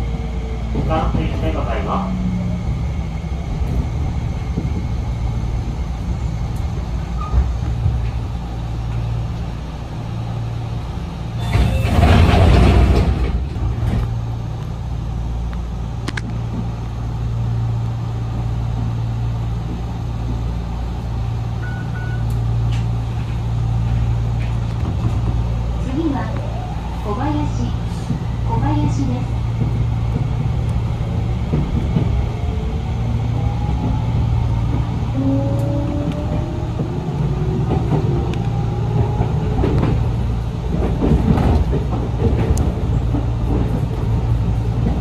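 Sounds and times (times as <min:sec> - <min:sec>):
train motors and wheels humming: 0:00.0 - 0:45.0.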